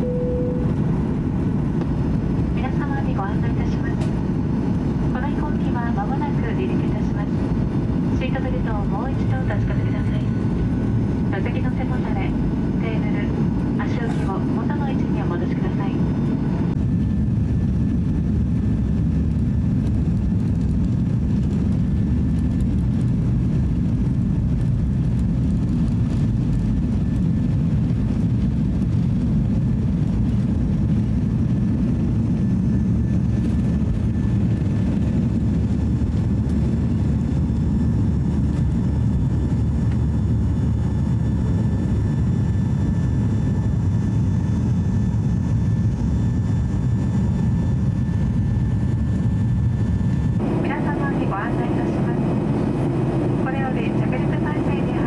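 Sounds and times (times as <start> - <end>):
jet engines low rumble: 0.0 - 55.0.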